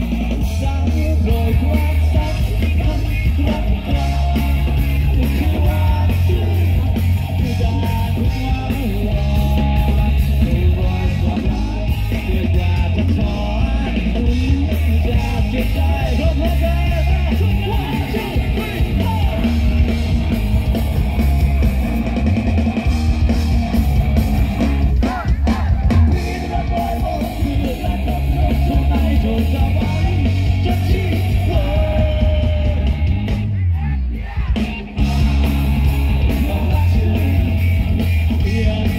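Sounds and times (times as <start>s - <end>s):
man singing and shouting: 0.0s - 22.2s, 24.5s - 38.9s
live rock band playing: 0.0s - 38.9s.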